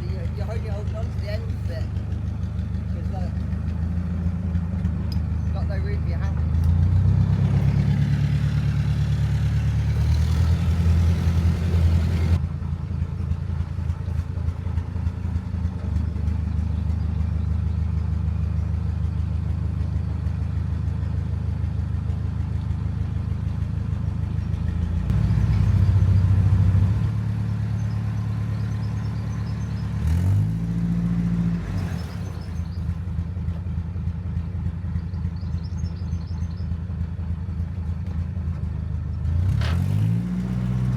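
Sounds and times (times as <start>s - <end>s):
boat engine running at low revs: 0.0s - 39.3s.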